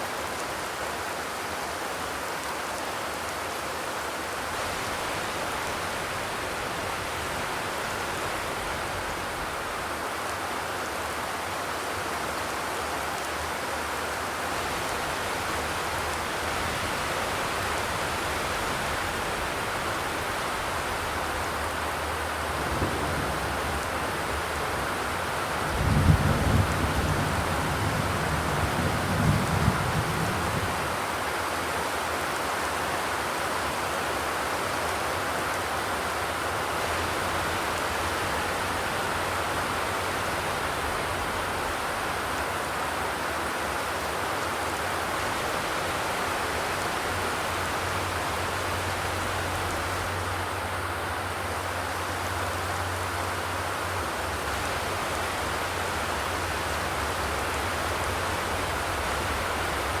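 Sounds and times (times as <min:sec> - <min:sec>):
rain on a metal roof: 0:00.0 - 1:00.0.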